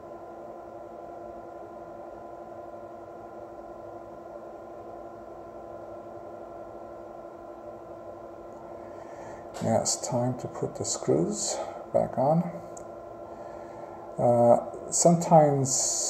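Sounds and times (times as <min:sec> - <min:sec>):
low room tone hum: 0:00.0 - 0:16.0.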